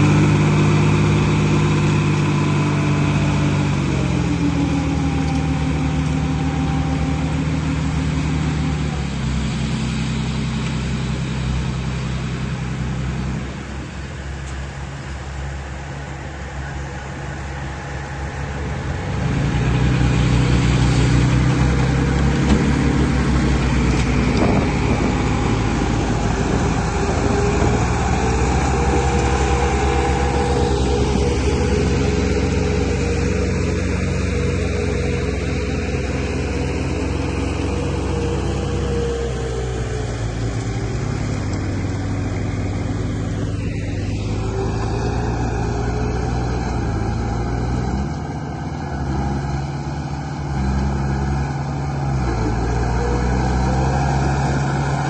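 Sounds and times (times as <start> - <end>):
bulldozer diesel engine: 0.0 - 55.0
dump truck engine: 0.0 - 55.0.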